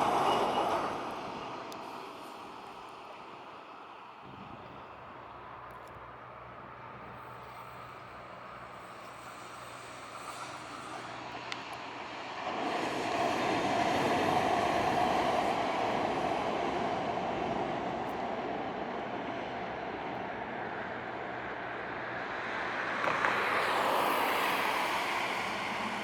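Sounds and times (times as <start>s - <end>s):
tram running on track: 0.0s - 26.0s.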